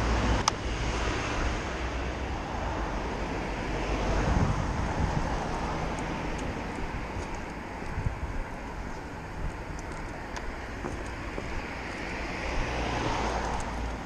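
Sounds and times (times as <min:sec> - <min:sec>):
road traffic noise: 0:00.0 - 0:14.0
wind rumbling on microphone: 0:00.0 - 0:14.0.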